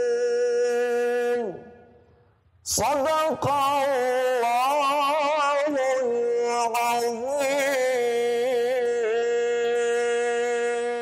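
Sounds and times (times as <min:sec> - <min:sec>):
man singing recitation: 0:00.0 - 0:02.0, 0:02.6 - 0:11.0.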